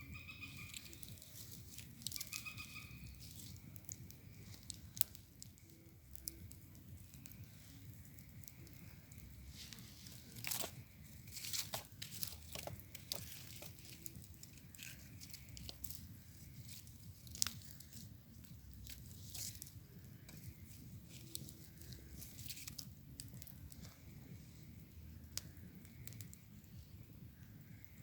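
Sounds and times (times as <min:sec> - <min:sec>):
bonfire crackling and popping: 0:00.0 - 0:28.0.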